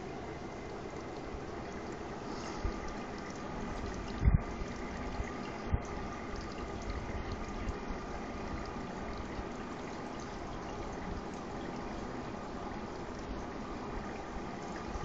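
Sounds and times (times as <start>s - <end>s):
water trickling in aquarium: 0.0s - 15.0s.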